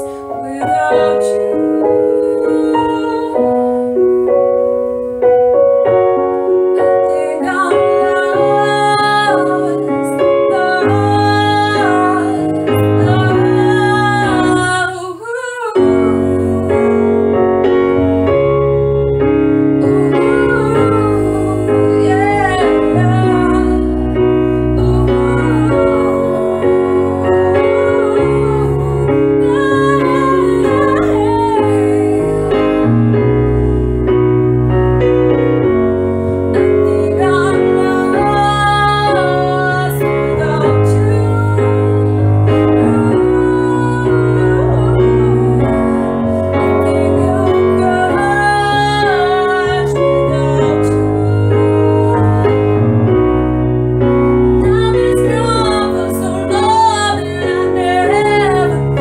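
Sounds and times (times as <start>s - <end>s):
woman singing a slow ballad: 0.0s - 4.0s, 6.7s - 18.1s, 19.6s - 33.6s, 36.5s - 53.3s, 54.4s - 59.0s
piano chords: 0.0s - 59.0s.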